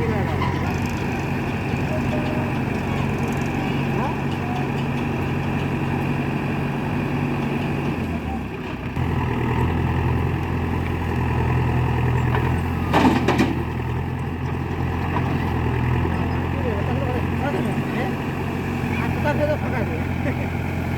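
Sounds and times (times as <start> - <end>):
diesel machinery engine running: 0.0 - 20.9.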